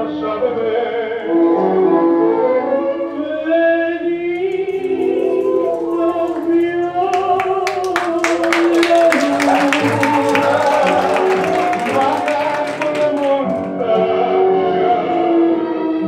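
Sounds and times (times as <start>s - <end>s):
tango orchestra music: 0.0s - 6.6s, 9.7s - 16.0s.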